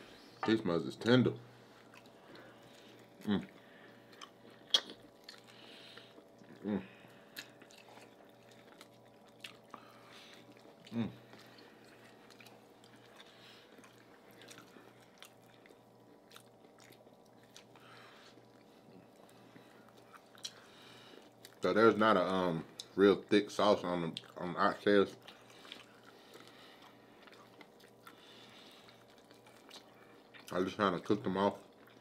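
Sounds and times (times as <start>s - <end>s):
chewing and lip smacks: 1.8s - 21.7s, 24.0s - 24.4s, 25.1s - 30.8s, 31.5s - 32.0s.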